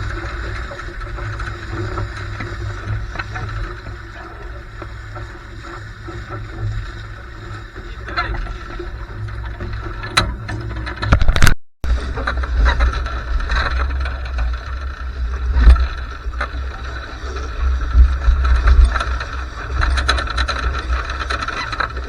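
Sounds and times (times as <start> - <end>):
water rushing along a hull: 0.0 - 11.2, 11.9 - 22.0.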